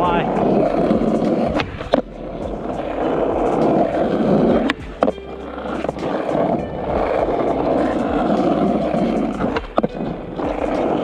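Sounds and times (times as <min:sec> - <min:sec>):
skateboard wheels rolling on asphalt: 0:00.0 - 0:11.0
skateboard clacks: 0:00.2 - 0:11.0.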